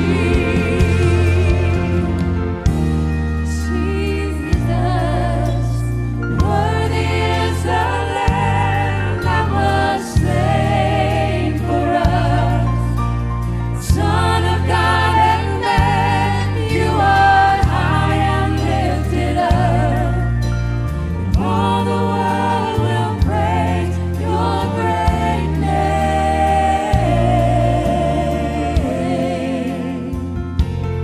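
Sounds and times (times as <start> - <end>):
drums: 0.0 - 31.0
piano: 0.0 - 31.0.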